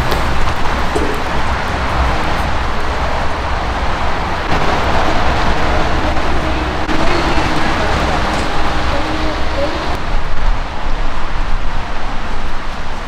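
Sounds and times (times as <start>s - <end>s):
heavy rain drumming on roof: 0.0s - 13.0s.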